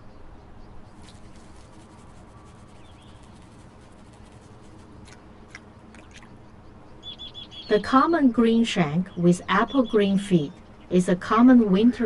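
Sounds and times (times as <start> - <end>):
faint bird chirps: 0.0 - 4.8, 6.0 - 11.0
steady background noise: 0.0 - 12.0.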